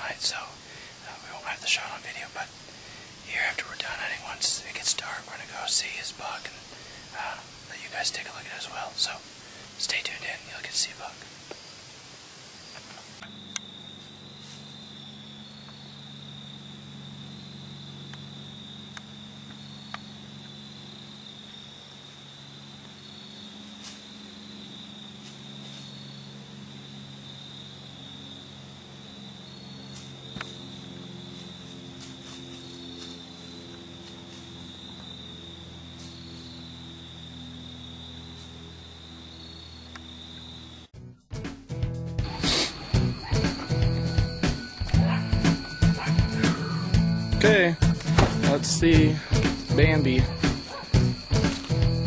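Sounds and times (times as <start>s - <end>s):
crickets trilling: 0.0s - 41.0s, 42.2s - 52.0s.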